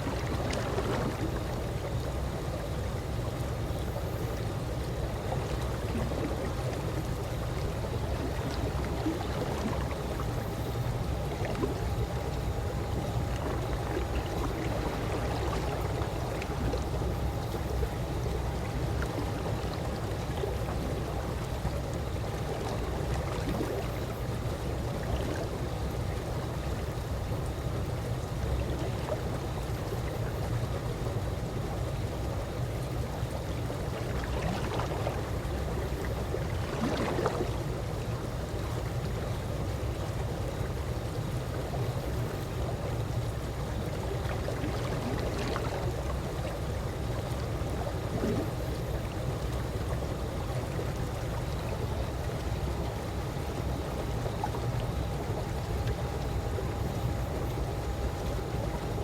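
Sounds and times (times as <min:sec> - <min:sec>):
pool water lapping and gurgling: 0:00.0 - 0:59.0.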